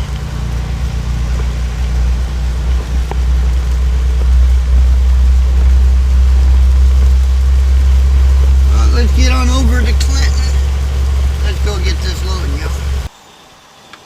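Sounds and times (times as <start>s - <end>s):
truck diesel engine drone: 0.0s - 13.1s.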